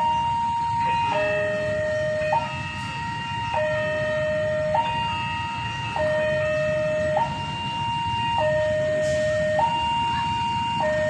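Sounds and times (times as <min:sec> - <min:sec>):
two-tone crossing alarm: 0:00.0 - 0:11.0.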